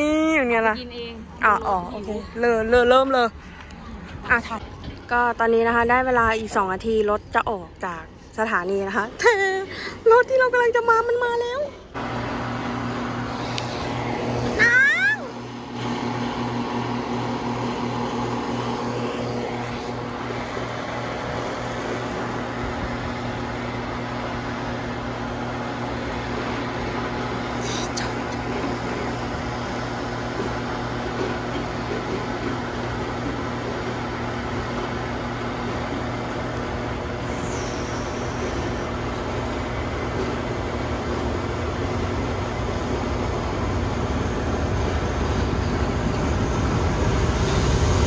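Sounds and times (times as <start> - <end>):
diesel train engine idling: 0.0 - 48.0.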